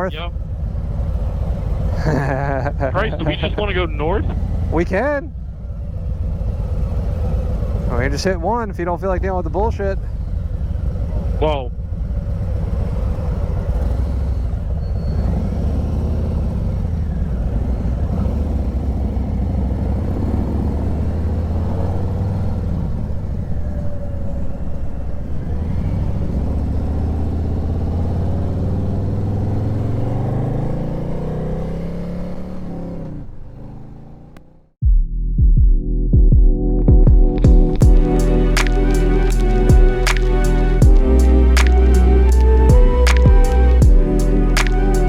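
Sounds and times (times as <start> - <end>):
motorcycle engine running: 0.0 - 24.4, 25.0 - 44.6
wind and road noise: 0.0 - 34.8, 37.7 - 45.0.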